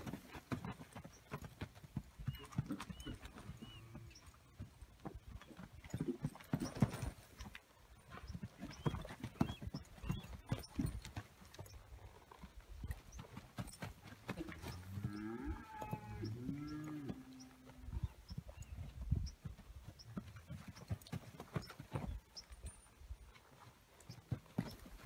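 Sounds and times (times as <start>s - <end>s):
hoofbeats on dirt: 0.0s - 25.0s.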